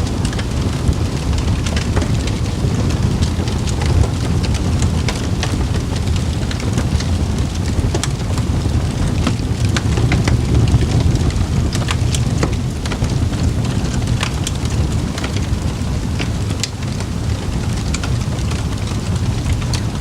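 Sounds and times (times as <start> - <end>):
campfire crackling: 0.0 - 20.0
low rumble of flames: 0.0 - 20.0.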